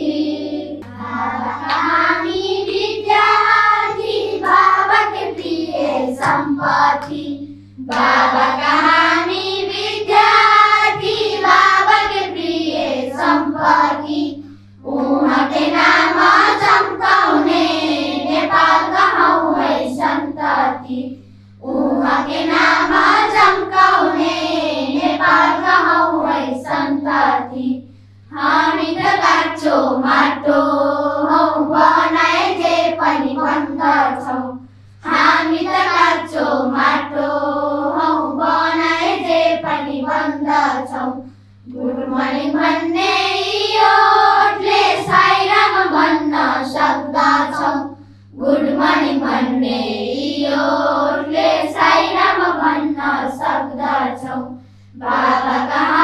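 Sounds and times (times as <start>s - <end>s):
children singing together: 0.0s - 56.0s.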